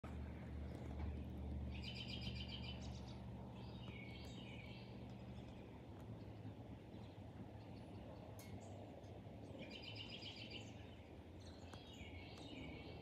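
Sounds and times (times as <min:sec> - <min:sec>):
low steady rumble: 0:00.0 - 0:13.0
small bird chirping: 0:00.5 - 0:08.8, 0:09.4 - 0:13.0.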